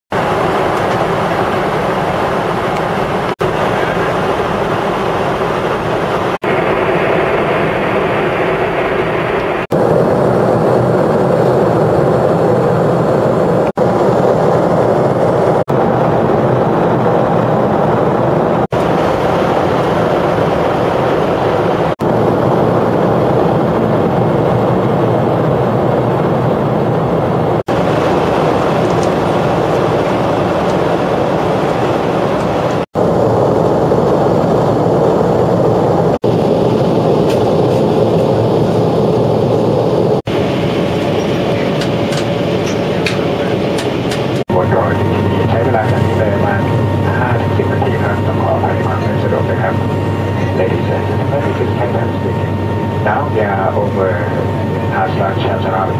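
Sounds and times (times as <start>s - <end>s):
airliner cabin engine rush: 0.1s - 55.9s.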